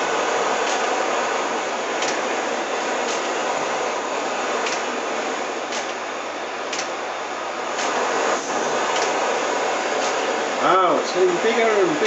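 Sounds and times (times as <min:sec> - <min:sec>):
gas burner flame hissing: 0:00.0 - 0:12.0.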